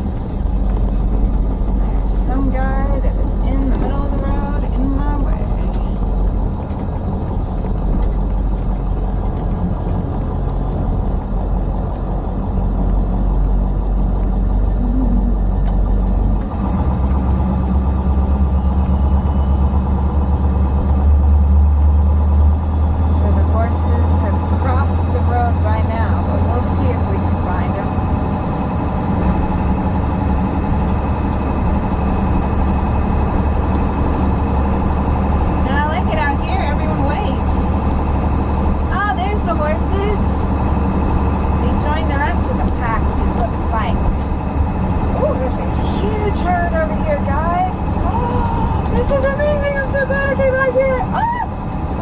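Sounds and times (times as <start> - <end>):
truck engine and road drone: 0.0 - 52.0.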